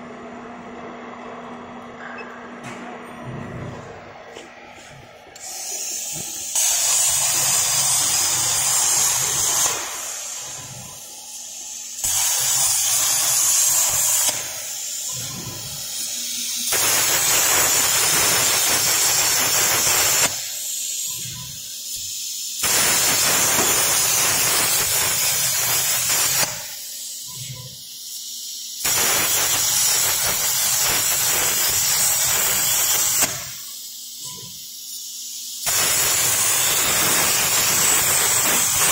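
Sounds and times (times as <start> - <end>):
plasma torch hissing: 5.4 - 38.9.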